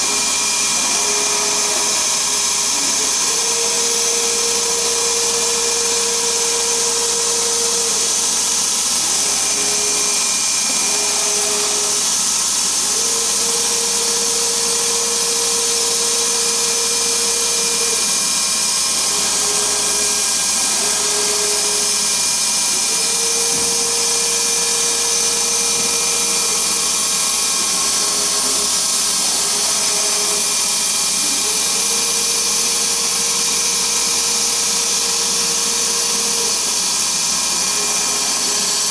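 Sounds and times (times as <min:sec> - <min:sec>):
drilling machine running: 0:00.0 - 0:38.9.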